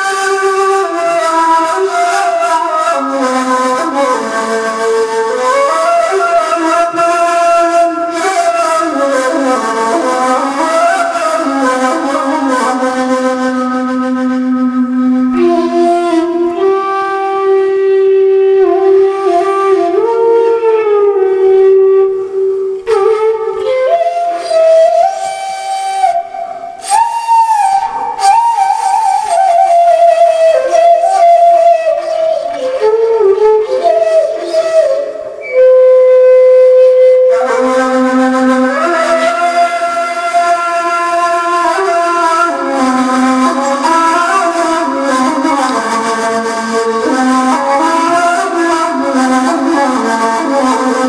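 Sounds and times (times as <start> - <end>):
flute-like slow melody: 0.0 - 51.0.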